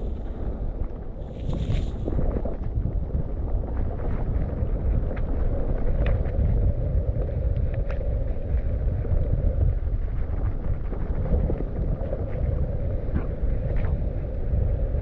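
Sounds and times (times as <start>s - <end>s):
mountain bike rumbling on dirt: 0.0s - 15.0s
wind buffeting microphone: 0.0s - 15.0s.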